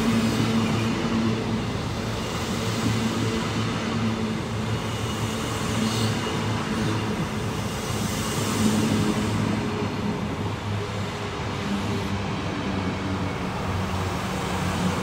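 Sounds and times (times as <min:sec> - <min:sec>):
diesel engine droning hum: 0:00.0 - 0:15.0
train wheels rumbling on rails: 0:00.0 - 0:15.0.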